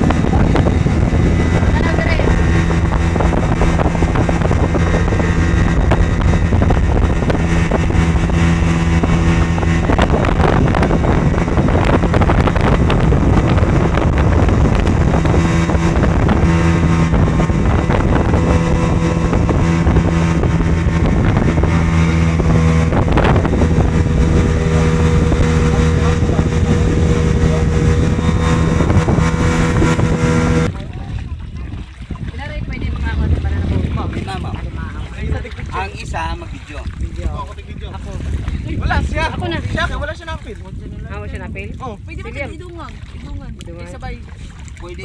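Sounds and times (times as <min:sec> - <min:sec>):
boat engine running: 0:00.0 - 0:45.0
wind buffeting microphone: 0:00.0 - 0:45.0.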